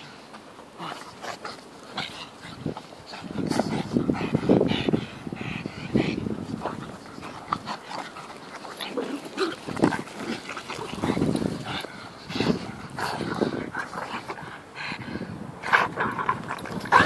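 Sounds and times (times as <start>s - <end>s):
dogs play-fighting: 0.0s - 17.0s.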